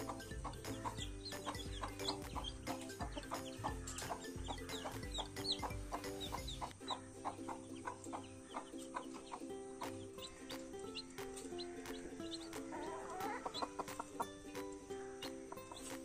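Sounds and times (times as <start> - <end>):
background music with low beat: 0.0 - 16.0
chicks peeping: 0.0 - 16.0
hen clucking: 0.0 - 16.0.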